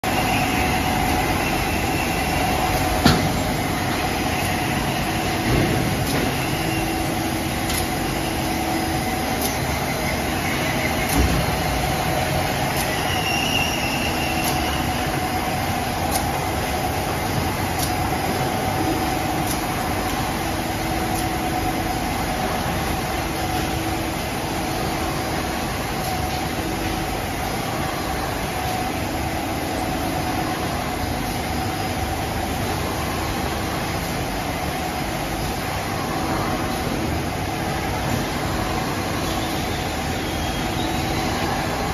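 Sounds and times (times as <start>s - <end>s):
machine humming and rumbling: 0.0s - 41.9s.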